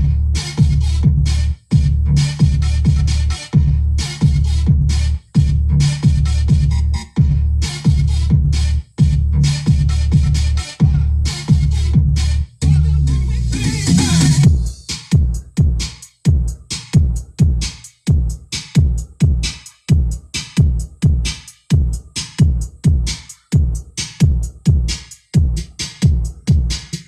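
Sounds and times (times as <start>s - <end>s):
deep kick-drum hits: 0.0s - 12.8s, 13.9s - 26.8s
electronic dance music with heavy bass: 0.0s - 27.0s.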